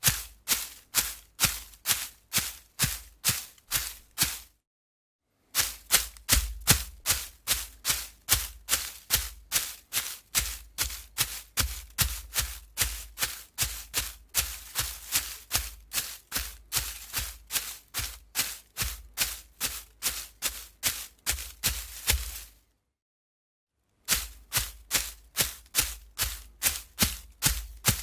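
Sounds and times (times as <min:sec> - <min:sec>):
running footsteps on gravel: 0:00.0 - 0:04.4, 0:05.6 - 0:22.5, 0:24.1 - 0:28.0.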